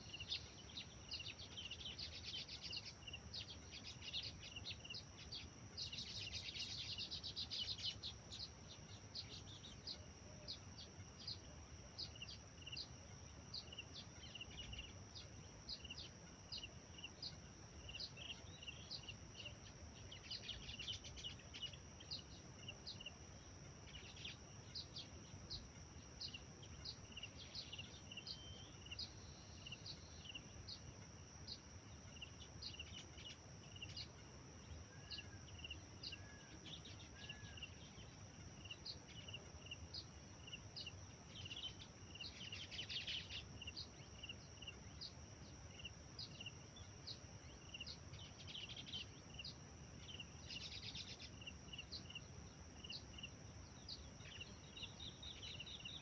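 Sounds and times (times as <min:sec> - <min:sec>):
birds twittering: 0:00.0 - 0:56.0.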